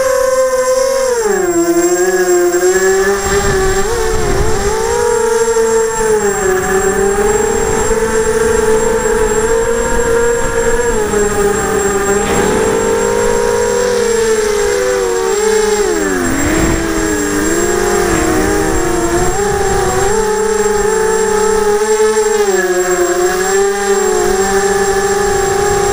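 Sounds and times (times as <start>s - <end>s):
quadcopter motors whining: 0.0s - 25.9s
wind rumble on microphone: 2.6s - 22.6s, 23.2s - 25.9s.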